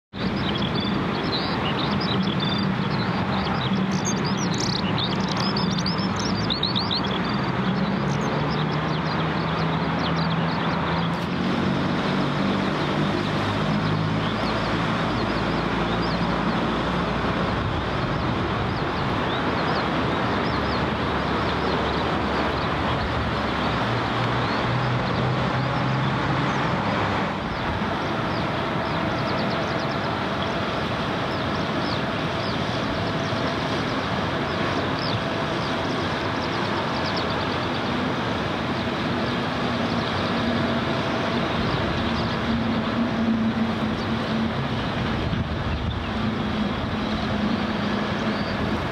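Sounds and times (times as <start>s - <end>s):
engine hums: 0.1s - 48.9s
traffic rumble: 0.1s - 48.9s.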